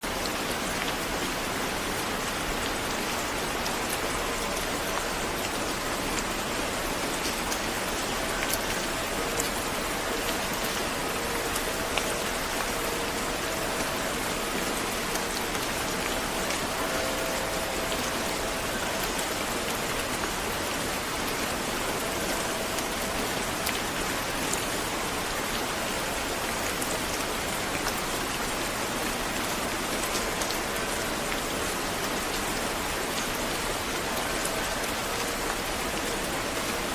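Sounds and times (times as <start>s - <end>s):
rain on a hard surface: 0.0s - 36.9s.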